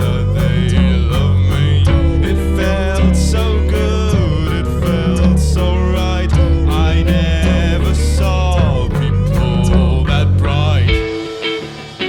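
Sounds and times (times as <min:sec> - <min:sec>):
drum hits: 0:00.0 - 0:12.0
guitar: 0:00.0 - 0:12.0
heavy bass line: 0:00.0 - 0:12.0
live band playing: 0:00.0 - 0:12.0
person singing: 0:00.0 - 0:12.0.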